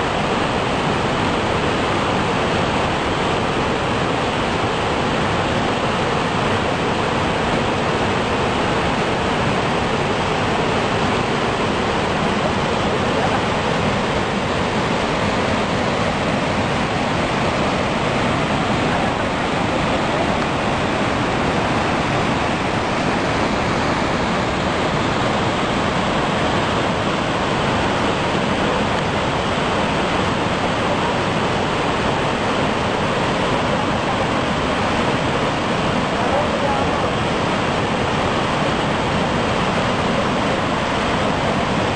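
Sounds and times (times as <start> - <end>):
waterfall crashing onto rocks: 0.0 - 41.9.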